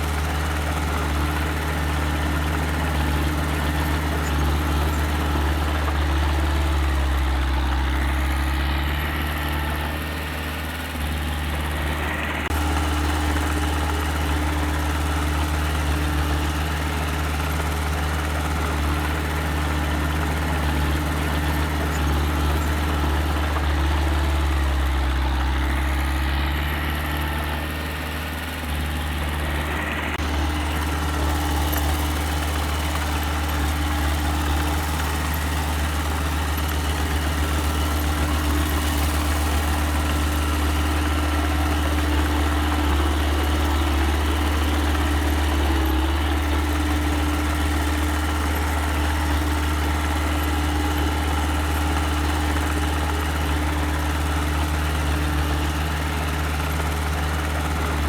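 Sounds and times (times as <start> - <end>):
small earthmover engine droning: 0.0 - 58.0.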